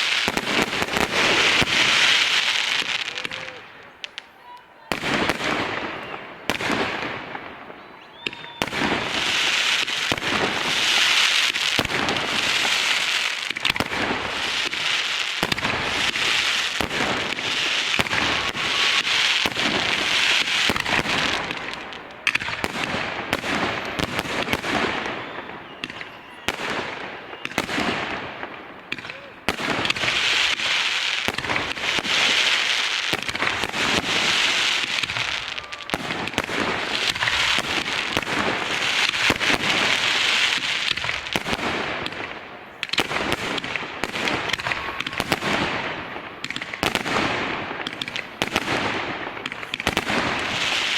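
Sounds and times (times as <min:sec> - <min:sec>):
fireworks banging and crackling: 0:00.0 - 0:50.9.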